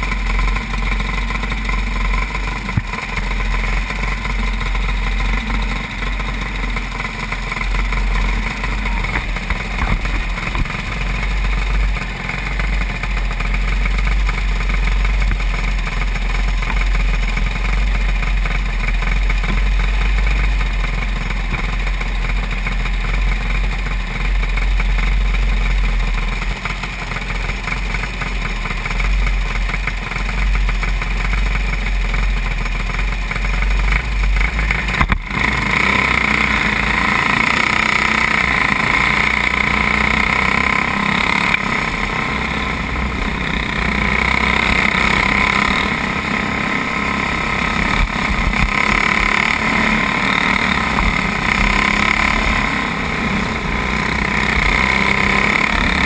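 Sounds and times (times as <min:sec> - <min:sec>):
racing kart engine: 0:00.0 - 0:56.0.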